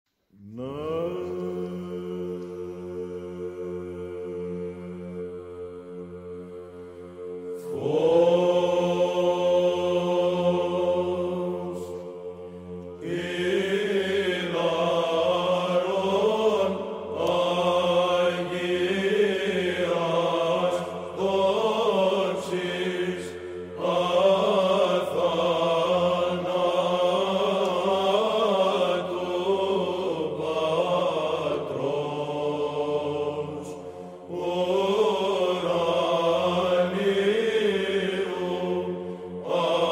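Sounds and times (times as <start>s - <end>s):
held vocal drone: 0.4s - 39.9s
person chanting a melody: 0.4s - 39.9s.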